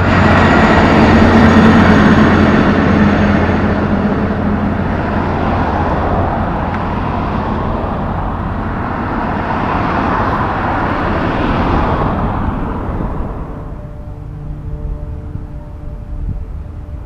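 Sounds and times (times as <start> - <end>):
cars driving past: 0.0 - 17.0
truck engine rumble: 0.0 - 17.0.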